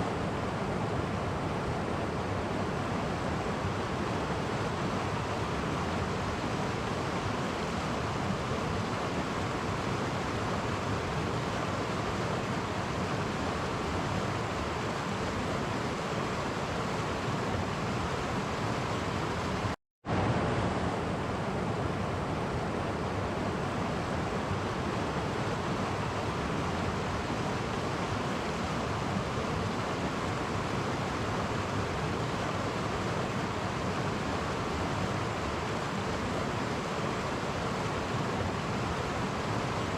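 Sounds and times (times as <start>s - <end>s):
stream flowing over cascades: 0.0s - 39.9s.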